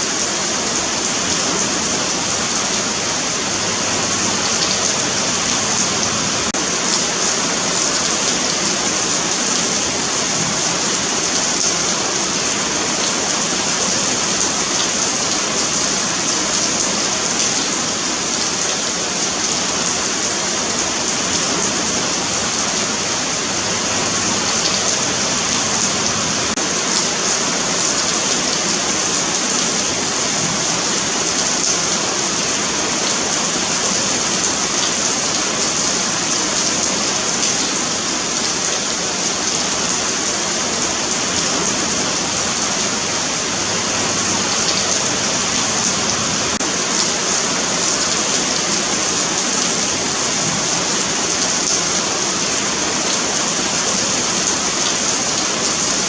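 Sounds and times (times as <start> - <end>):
rain falling on pavement: 0.0 - 56.0.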